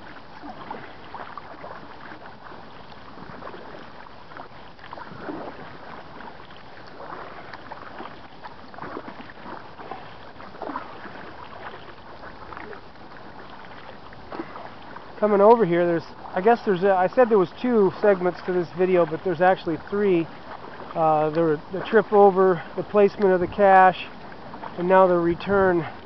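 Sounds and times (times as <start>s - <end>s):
kayak paddle splashing: 0.0s - 26.0s
steady wash of water: 0.0s - 26.0s.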